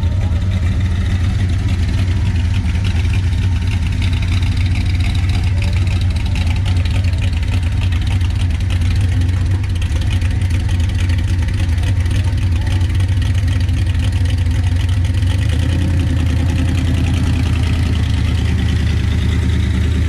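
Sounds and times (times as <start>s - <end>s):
car engine pulsing exhaust: 0.0s - 20.0s.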